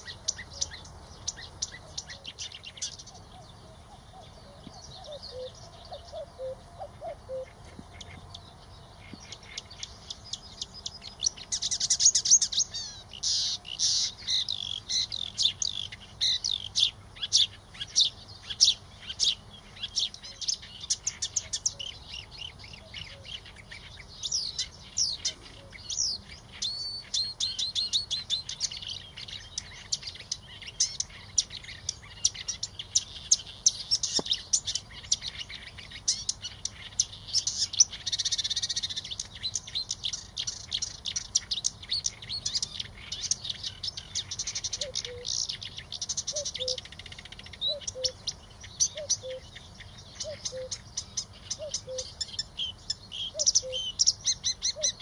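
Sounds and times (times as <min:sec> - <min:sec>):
warbler singing: 0:00.0 - 0:55.0.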